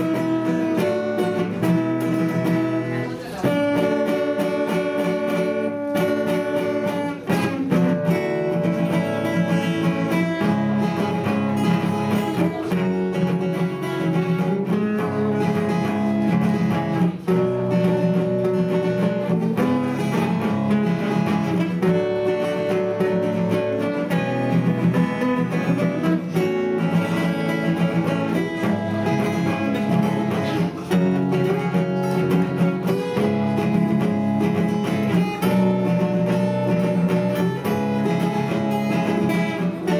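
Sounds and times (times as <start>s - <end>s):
acoustic guitar music: 0.0s - 39.9s.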